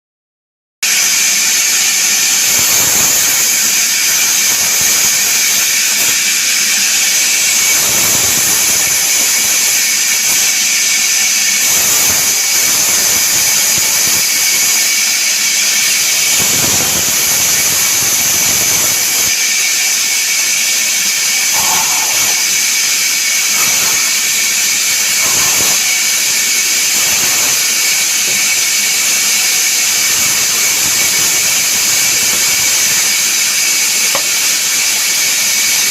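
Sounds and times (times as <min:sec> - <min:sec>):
woodworking power tool hissing: 0:00.8 - 0:35.9.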